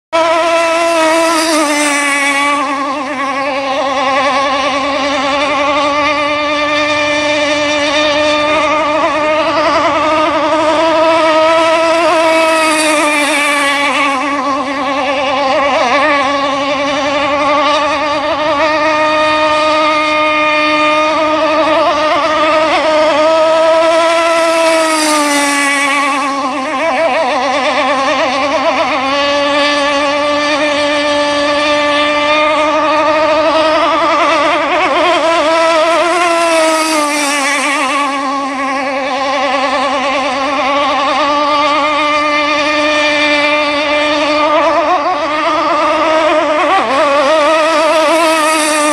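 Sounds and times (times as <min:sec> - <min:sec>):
high-pitched two-stroke engine buzz: 0:00.0 - 0:48.9.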